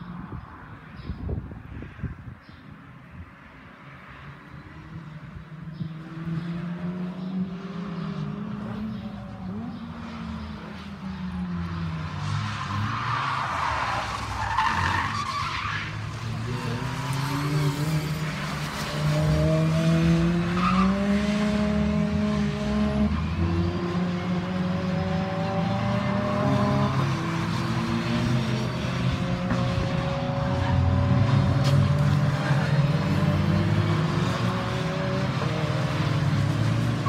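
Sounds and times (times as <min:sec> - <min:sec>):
race car engines braking and accelerating: 0:04.1 - 0:37.0.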